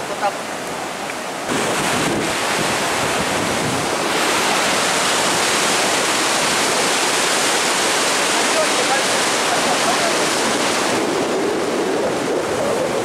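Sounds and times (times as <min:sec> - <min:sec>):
river floodwater rushing: 0:00.0 - 0:13.0.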